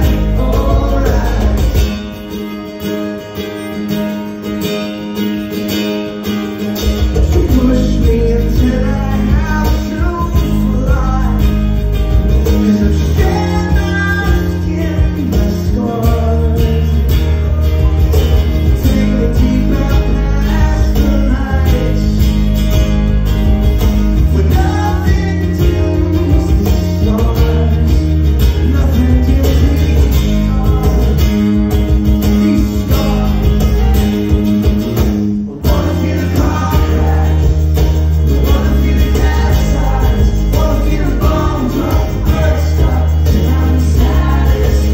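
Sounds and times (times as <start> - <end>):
man singing into a microphone: 0.0 - 2.1, 7.2 - 22.3, 24.2 - 31.5, 32.2 - 34.4, 35.4 - 44.9
strummed acoustic guitar: 0.0 - 44.9.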